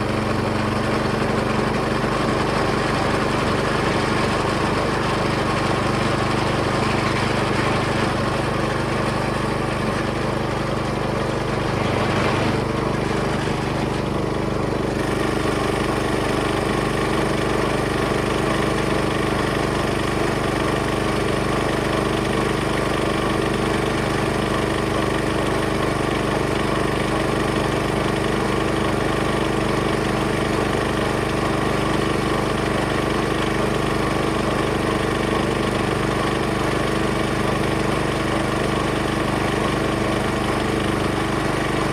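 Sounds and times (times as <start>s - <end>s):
small engine running: 0.0s - 41.9s.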